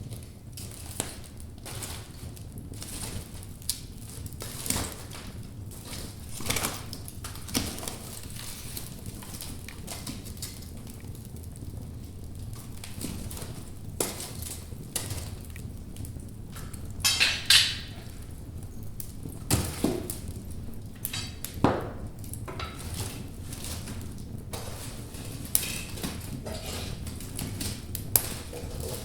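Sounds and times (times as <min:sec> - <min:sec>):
burning logs crackling: 0:00.0 - 0:29.0
low rumble of flames: 0:00.0 - 0:29.0
sharp pops from fire: 0:00.1 - 0:29.0.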